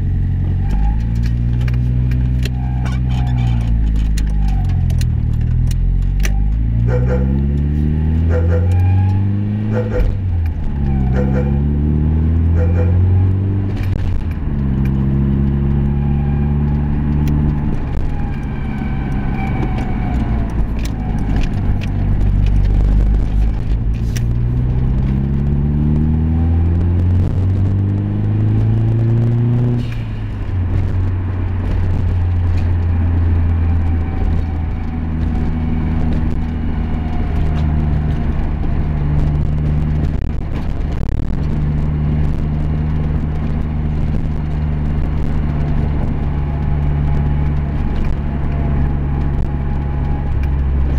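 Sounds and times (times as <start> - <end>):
vehicle engine accelerating: 0.0 - 50.9.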